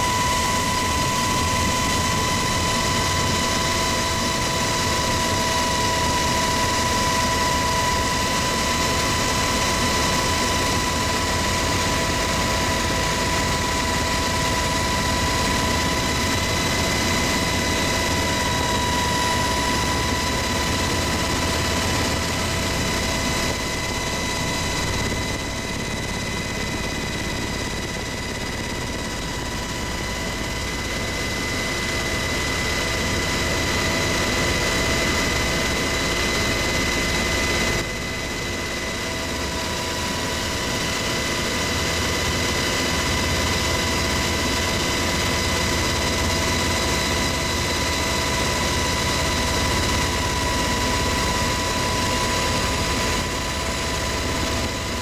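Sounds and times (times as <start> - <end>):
helicopter engine and rotor drone: 0.0 - 55.0
high steady whines: 0.0 - 55.0.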